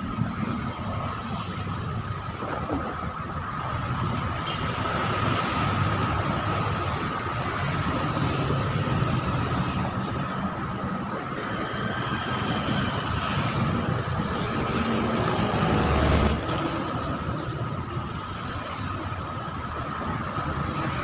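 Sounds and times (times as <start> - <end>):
engine and traffic drone: 0.0 - 21.0.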